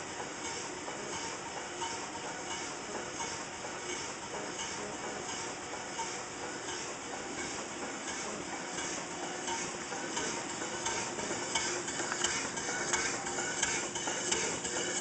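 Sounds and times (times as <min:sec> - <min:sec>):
steam engine hissing and ticking: 0:00.0 - 0:15.0.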